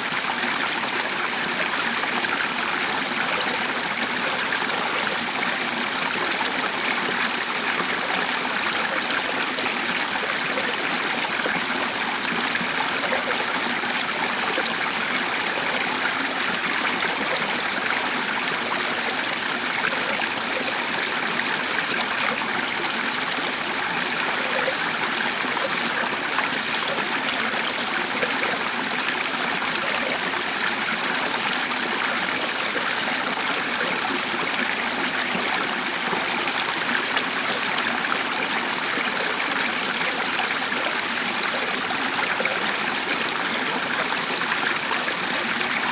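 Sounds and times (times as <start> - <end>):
stream running water: 0.0 - 45.9.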